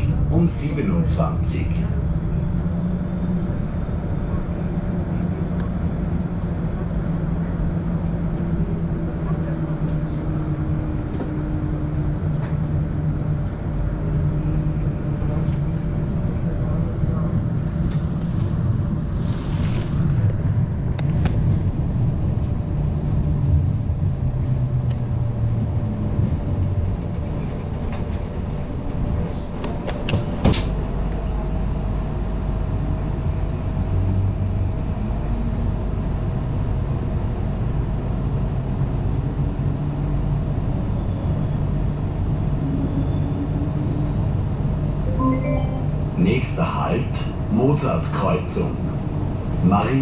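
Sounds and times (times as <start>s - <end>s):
tram wheels rumbling on rails: 0.0s - 45.0s, 46.3s - 50.0s.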